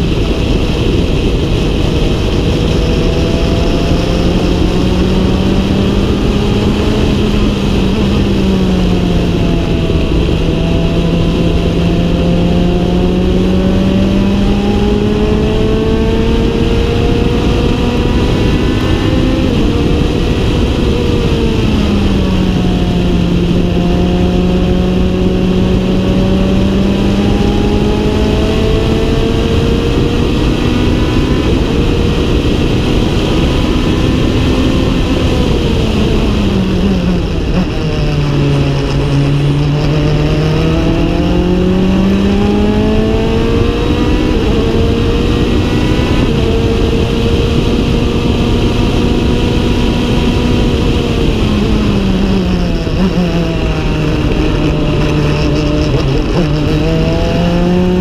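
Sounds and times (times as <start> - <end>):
race car engine at speed: 0.0 - 58.0
steady rushing noise: 0.0 - 58.0.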